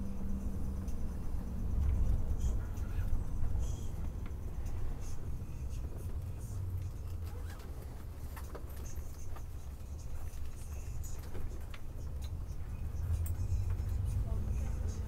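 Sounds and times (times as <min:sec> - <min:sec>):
coach diesel engine rumble: 0:00.0 - 0:15.0
faint clicks and rattles: 0:00.7 - 0:15.0.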